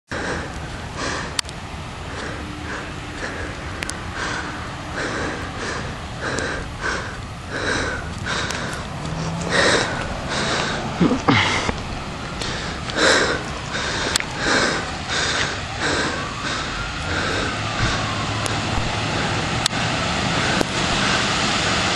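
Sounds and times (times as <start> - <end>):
close breathing or sniffing: 0.1 - 19.7
faint siren wail: 0.2 - 21.9.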